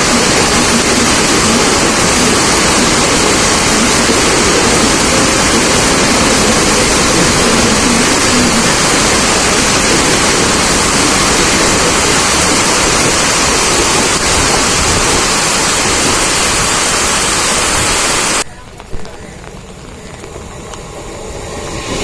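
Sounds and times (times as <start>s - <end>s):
train rushing in heavy rain: 0.0s - 22.0s.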